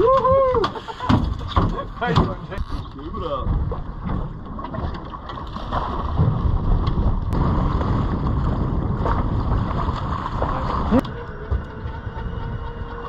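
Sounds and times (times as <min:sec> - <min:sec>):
water splashing against boat: 0:00.0 - 0:13.0
wind rumbling on microphone: 0:00.0 - 0:13.0.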